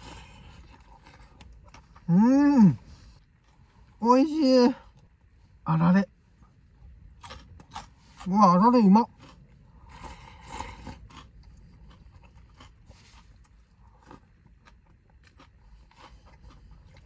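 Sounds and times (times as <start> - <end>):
crunchy chewing: 0.0 - 4.0, 6.3 - 17.0
person chewing: 0.0 - 4.0, 6.4 - 17.0.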